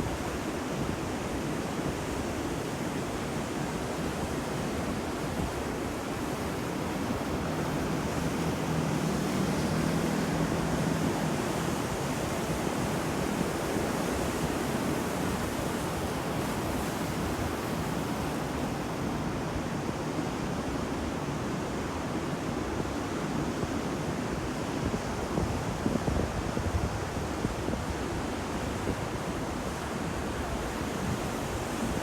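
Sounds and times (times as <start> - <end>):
sea waves breaking on shore: 0.0 - 32.0
wind noise on microphone: 0.0 - 32.0.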